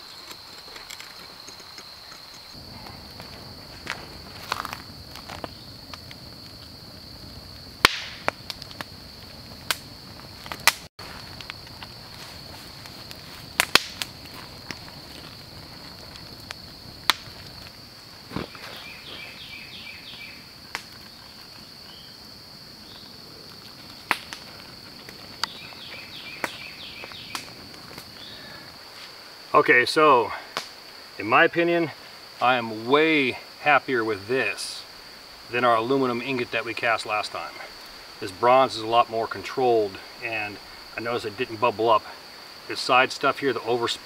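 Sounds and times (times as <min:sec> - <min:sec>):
campfire crackling and popping: 0:00.0 - 0:44.0
high insect drone: 0:00.0 - 0:44.0.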